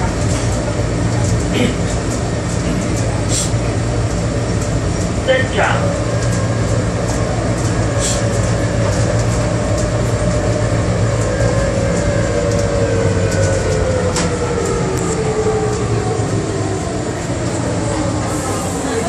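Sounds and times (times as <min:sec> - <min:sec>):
train interior low hum: 0:00.0 - 0:19.0.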